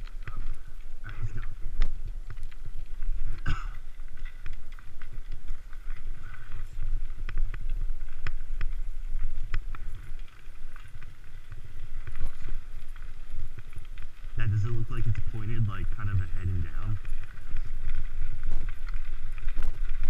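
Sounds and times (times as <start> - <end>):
bike clicks and rattles: 0.0 - 20.0
tyres crunching on gravel: 0.0 - 20.0.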